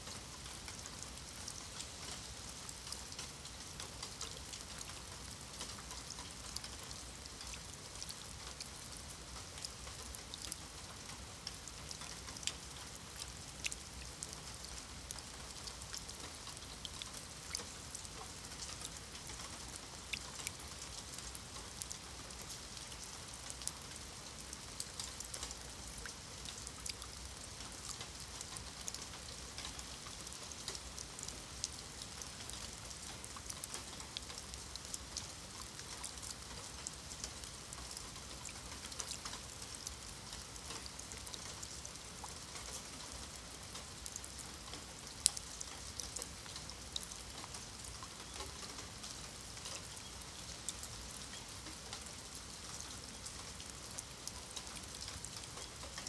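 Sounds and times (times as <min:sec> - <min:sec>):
rain on stone paving: 0:00.0 - 0:56.0.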